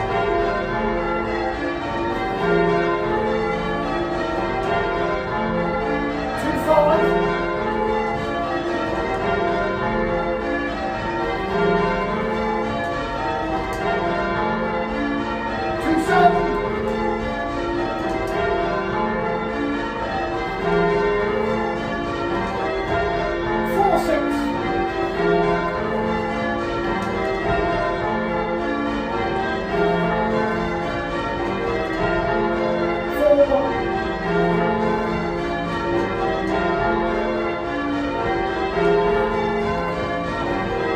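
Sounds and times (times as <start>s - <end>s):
church bells change ringing: 0.0s - 40.9s.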